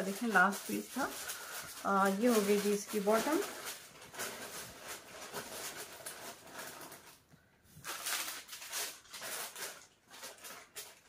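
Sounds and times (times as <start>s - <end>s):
cloth rustling: 0.0s - 10.9s.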